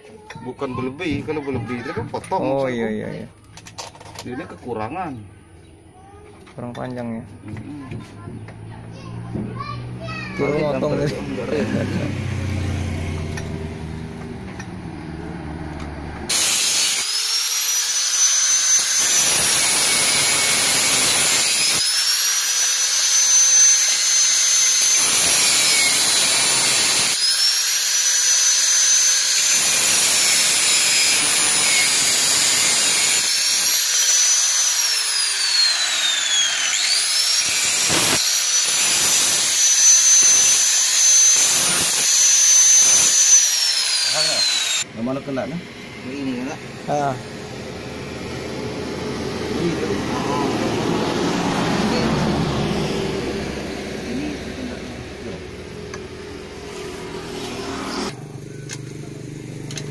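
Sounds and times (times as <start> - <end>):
angle grinder cutting metal pipe: 7.9 - 59.9.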